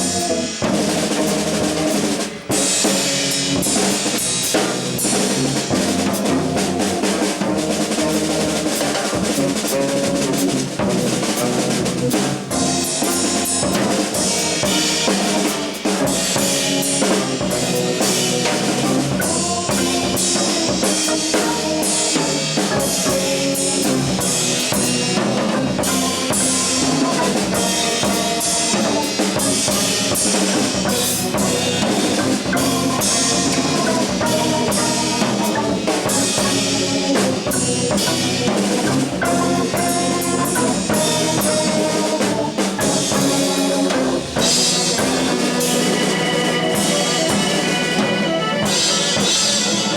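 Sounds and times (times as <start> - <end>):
drum kit: 0.0 - 49.9
jazz trio playing: 0.0 - 49.9.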